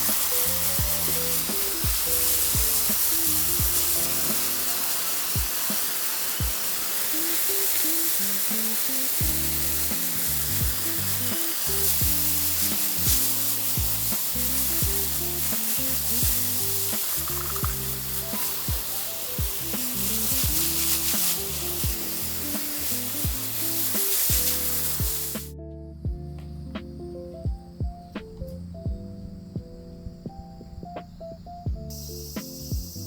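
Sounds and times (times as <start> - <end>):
hose spraying water on paving: 0.0 - 25.5, 31.7 - 33.0.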